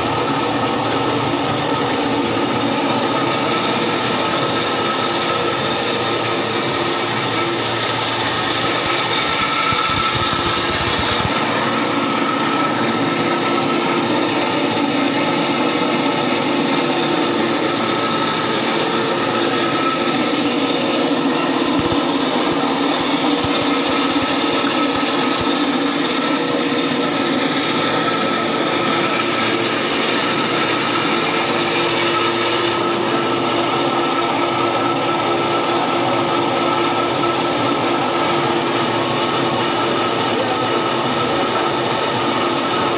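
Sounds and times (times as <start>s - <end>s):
pellet mill machine grinding: 0.0s - 42.9s.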